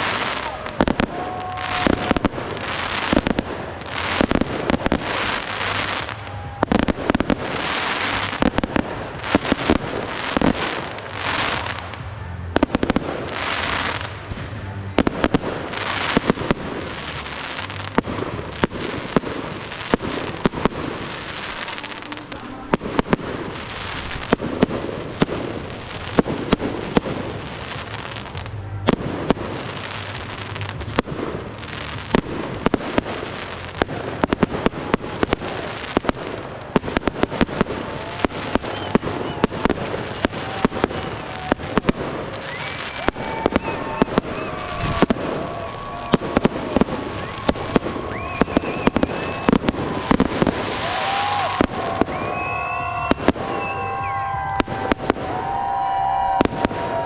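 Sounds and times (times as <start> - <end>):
fireworks bangs: 0.0 - 57.0
fireworks crackling hiss: 0.0 - 57.0.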